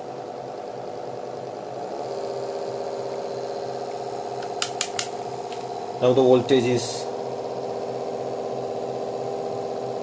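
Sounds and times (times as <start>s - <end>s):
small electric motor whine: 0.0s - 10.0s.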